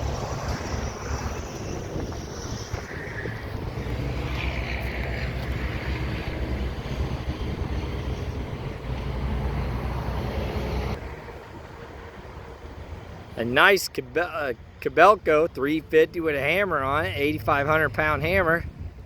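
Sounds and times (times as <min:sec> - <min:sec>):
wind buffeting microphone: 0:00.0 - 0:13.4, 0:16.5 - 0:19.0
low engine rumble: 0:00.0 - 0:19.0.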